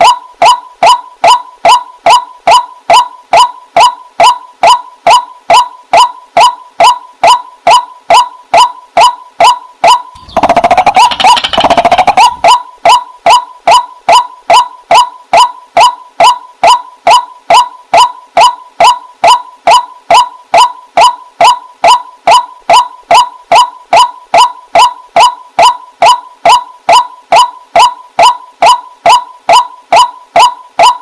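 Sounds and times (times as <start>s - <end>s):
waterhen repetitive call: 0.0s - 31.0s.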